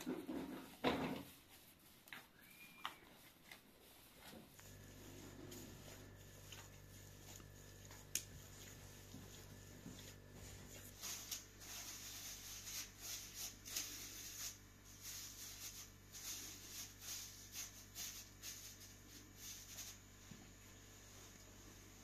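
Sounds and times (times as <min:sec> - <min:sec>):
herbs rustling: 0:00.0 - 0:20.6
low steady hum: 0:00.0 - 0:22.0.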